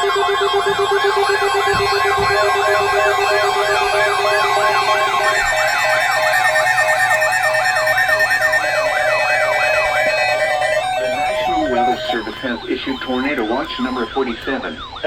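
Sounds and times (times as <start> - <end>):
pulsing lower tone: 0.0 - 15.0
warbling electronic siren tone: 0.0 - 15.0.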